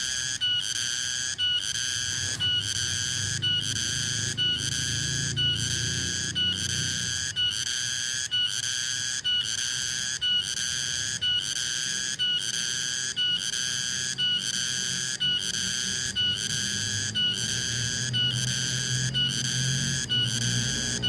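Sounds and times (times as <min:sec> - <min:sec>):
cicada shrill buzzing: 0:00.0 - 0:21.0.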